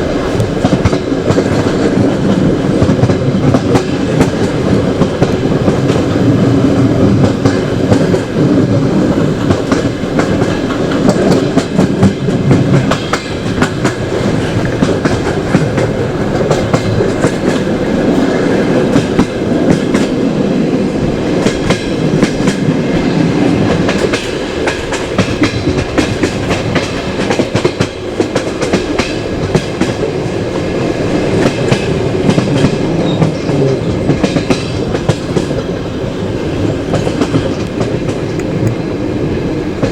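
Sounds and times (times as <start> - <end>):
train rumble: 0.0 - 39.9
train wheel clicks: 0.0 - 39.9.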